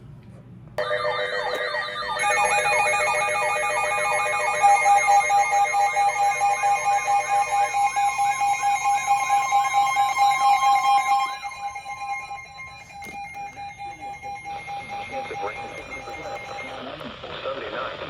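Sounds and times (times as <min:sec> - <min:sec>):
steady electronic alert tones: 0:00.8 - 0:17.0
warbling siren-like sweep: 0:00.8 - 0:17.0.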